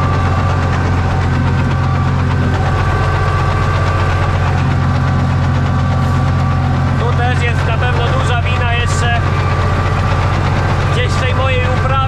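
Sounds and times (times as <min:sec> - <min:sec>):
tractor diesel engine clattering: 0:00.0 - 0:12.0.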